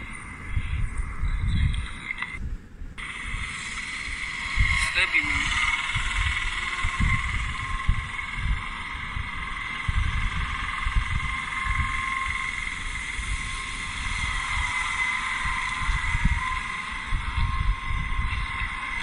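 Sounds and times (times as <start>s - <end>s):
faint high whine: 0.0s - 19.0s
steady hiss: 0.0s - 19.0s
wind buffeting microphone: 0.0s - 19.0s.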